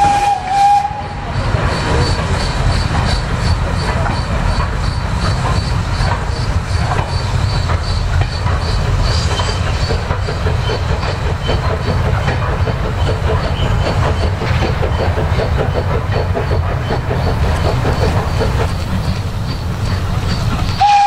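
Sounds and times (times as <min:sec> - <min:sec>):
steam locomotive rumbling: 0:00.0 - 0:21.0
wheels and exhaust clicking: 0:00.0 - 0:21.0.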